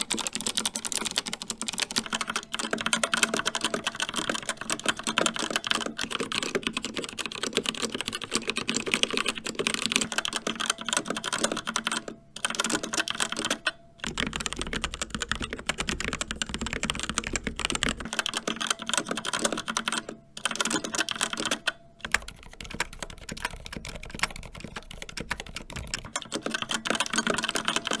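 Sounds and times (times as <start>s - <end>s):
typing on mechanical keyboard: 0.0s - 28.0s.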